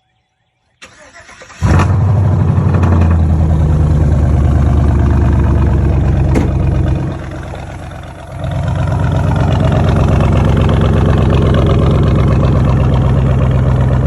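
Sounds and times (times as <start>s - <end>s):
engine running at fast idle: 1.5s - 14.0s.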